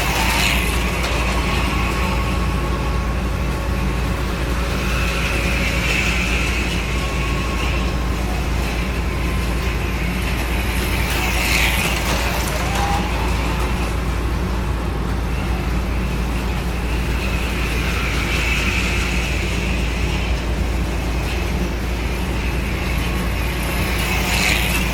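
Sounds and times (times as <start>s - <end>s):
low hum and rumble: 0.0s - 24.9s
slot car motors whirring: 0.0s - 24.9s.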